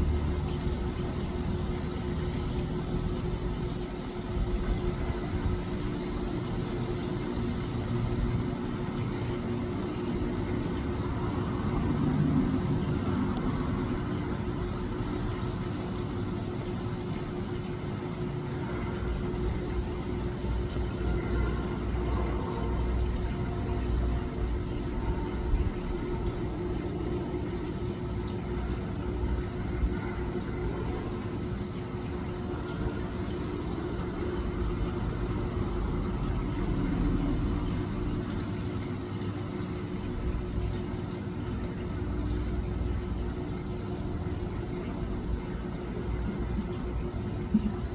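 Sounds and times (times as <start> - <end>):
low mechanical rumble: 0.0 - 47.9.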